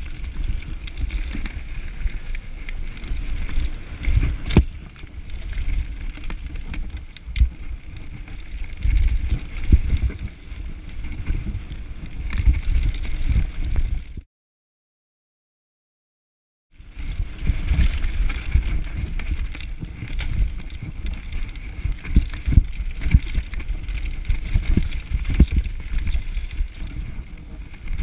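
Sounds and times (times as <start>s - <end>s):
bike rattling clicks: 0.0s - 14.1s, 17.0s - 27.1s
bike tyres rumbling on trail: 0.0s - 14.2s, 16.7s - 28.0s.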